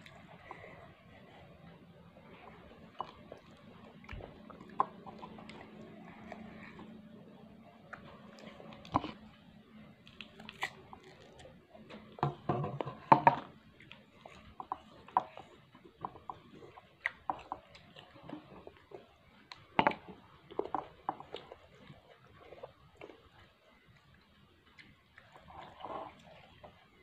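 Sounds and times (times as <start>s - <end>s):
people chewing and lip smacking: 0.0s - 27.0s.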